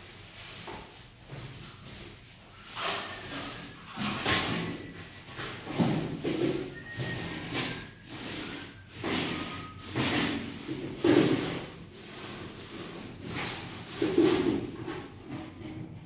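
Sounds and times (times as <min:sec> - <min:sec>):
plastic bag rustling against metal bin: 0:00.0 - 0:15.6.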